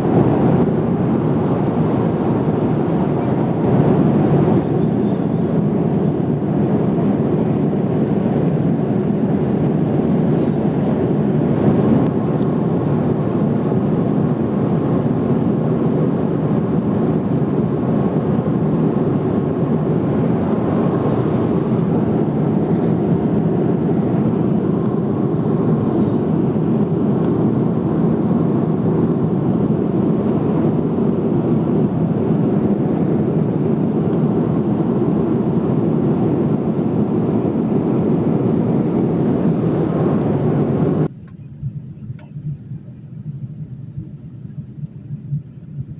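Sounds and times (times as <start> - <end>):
aircraft cabin engine noise: 0.0 - 45.9.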